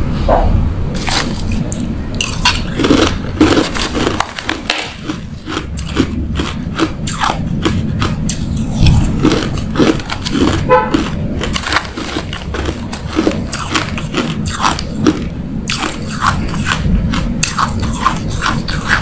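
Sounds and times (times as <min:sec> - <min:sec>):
crushed ice being chewed: 0:01.0 - 0:19.0.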